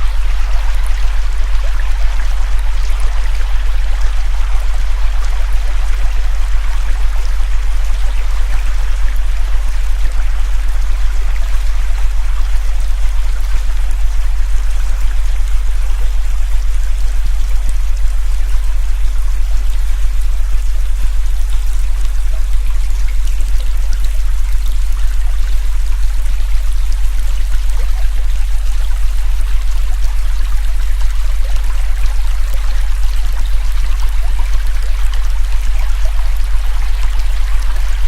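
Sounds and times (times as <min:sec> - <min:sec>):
river flowing: 0:00.0 - 0:38.0
steady low tone: 0:00.0 - 0:38.0.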